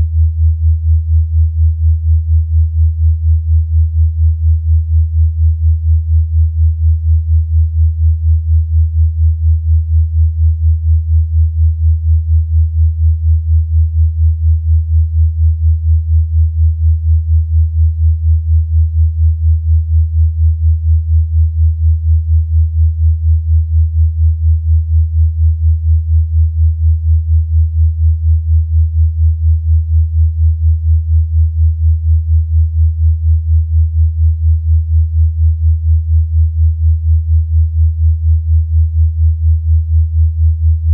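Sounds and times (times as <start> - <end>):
low pulsing sine tone: 0.0 - 40.9.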